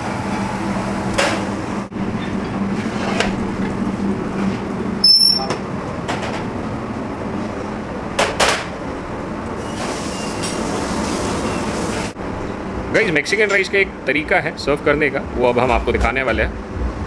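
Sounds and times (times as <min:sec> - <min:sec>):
kitchen rush with low hum: 0:00.0 - 0:17.0.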